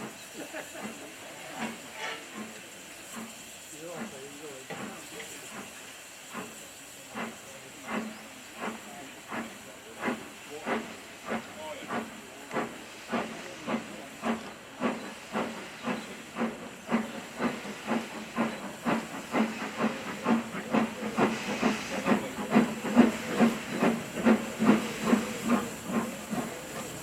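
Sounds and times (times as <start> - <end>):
steam locomotive exhaust chuffing: 0.0 - 27.0.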